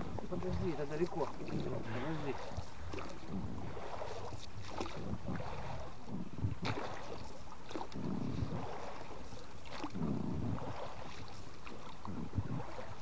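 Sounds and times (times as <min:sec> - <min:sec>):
faint wind: 0:00.0 - 0:13.0
water splashing against hull: 0:00.0 - 0:13.0.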